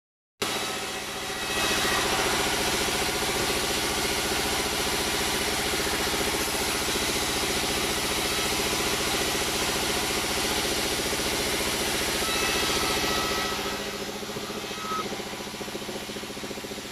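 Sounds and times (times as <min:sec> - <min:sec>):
sawmill engine running: 0:00.4 - 0:16.9
saw blade cutting hiss: 0:00.5 - 0:16.6.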